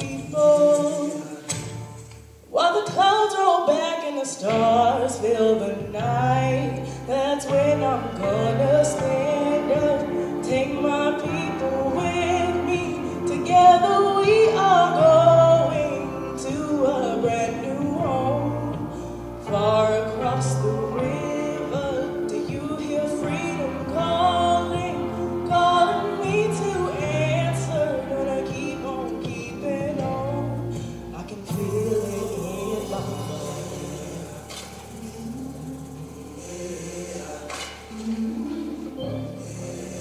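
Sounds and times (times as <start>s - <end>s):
woman singing with vibrato: 0.0s - 1.7s, 2.4s - 40.0s.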